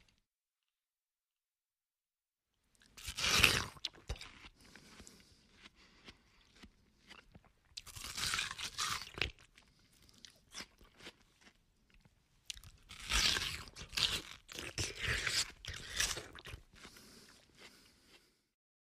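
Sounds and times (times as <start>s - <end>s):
person munching melon: 2.8s - 18.5s.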